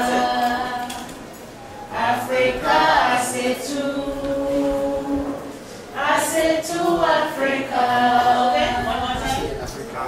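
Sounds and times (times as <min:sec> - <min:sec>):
group singing unaccompanied: 0:00.0 - 0:09.9.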